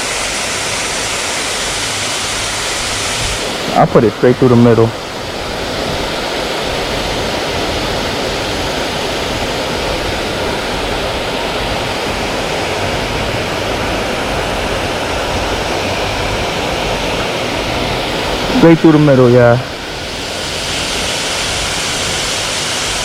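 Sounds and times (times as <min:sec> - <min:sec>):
small waterfall pouring: 0:00.0 - 0:23.0.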